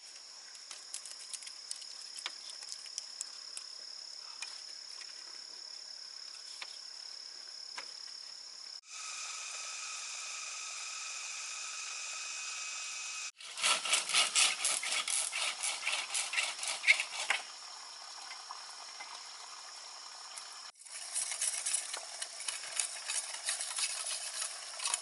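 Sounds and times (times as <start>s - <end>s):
insect buzzing drone: 0.0s - 25.0s
insects trilling: 0.0s - 25.0s
pulsing insect chorus: 0.0s - 25.0s.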